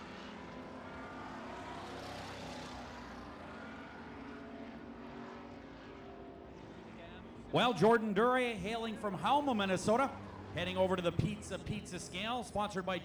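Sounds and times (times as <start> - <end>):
distant engines droning: 0.0 - 13.0.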